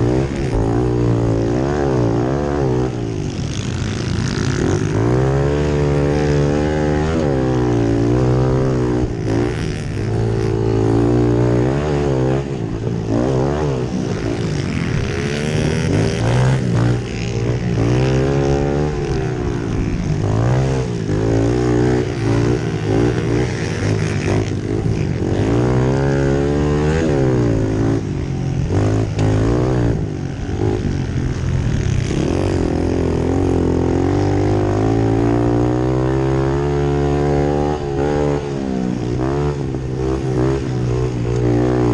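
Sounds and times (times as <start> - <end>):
pit bike engines revving: 0.0 - 41.9.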